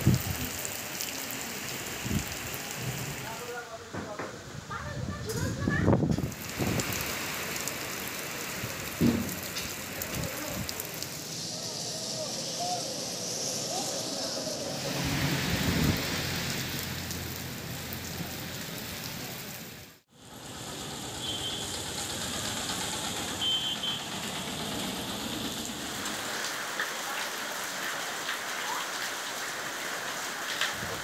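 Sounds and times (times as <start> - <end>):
steady rain on pavement: 0.0 - 31.0.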